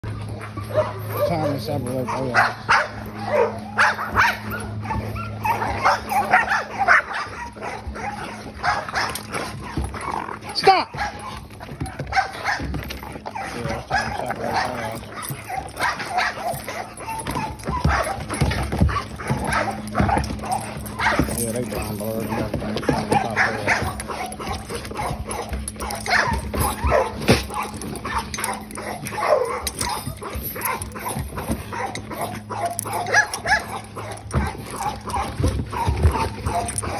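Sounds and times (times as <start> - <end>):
puppies scuffling: 0.0 - 36.9
puppies yipping and whining: 0.0 - 36.9.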